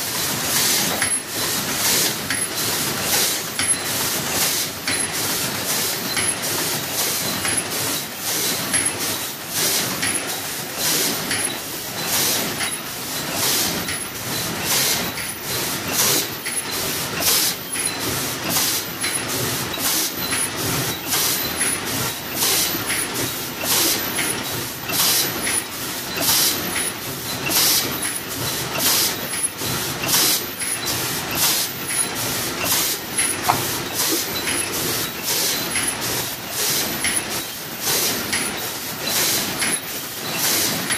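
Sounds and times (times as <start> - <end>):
paper cup machine clatter: 0.0 - 40.9
sharp high-pitched machine bursts: 1.0 - 40.9.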